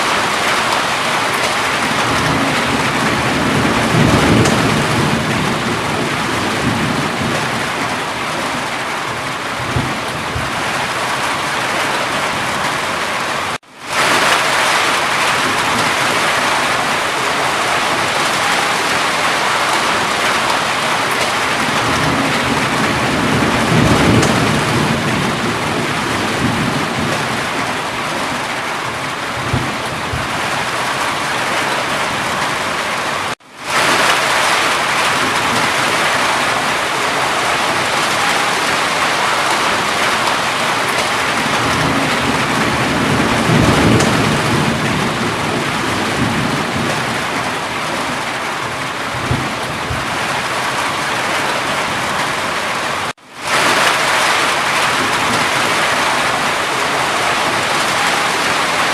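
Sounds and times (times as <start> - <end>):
heavy rain: 0.0 - 58.9
thunder rumbling: 0.0 - 58.9.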